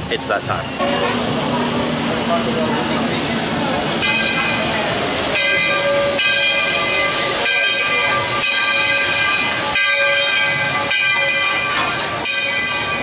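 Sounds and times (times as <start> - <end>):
steam locomotive hissing: 0.0 - 13.0
pitched ringing: 0.6 - 13.0.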